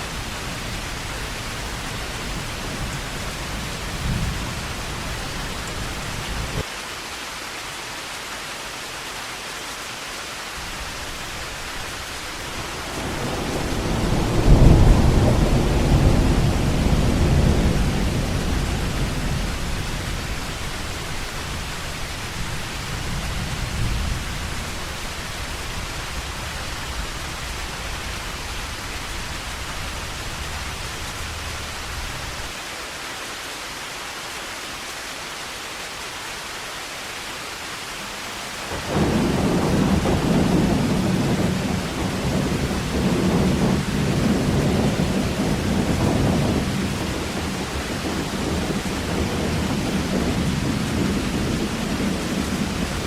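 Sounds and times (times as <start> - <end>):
thunder rumbling: 0.0 - 6.6, 10.6 - 32.5, 38.7 - 53.0
heavy rain hissing: 0.0 - 53.0.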